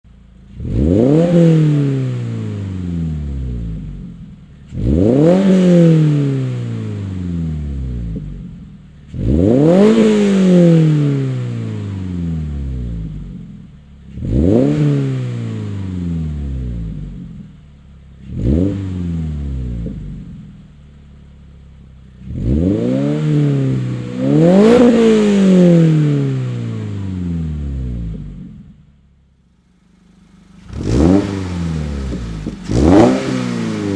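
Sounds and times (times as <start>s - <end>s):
car engine revving: 0.5s - 13.4s, 14.1s - 28.7s, 29.5s - 33.9s.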